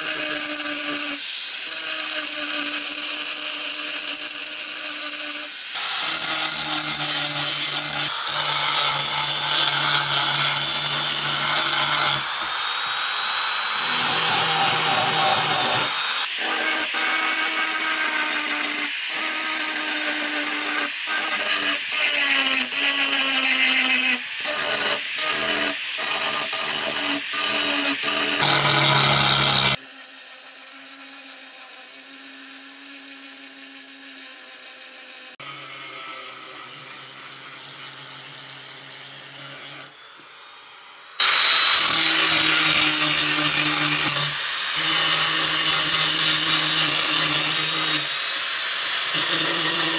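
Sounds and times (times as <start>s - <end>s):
angle grinder grinding metal: 0.0s - 49.9s.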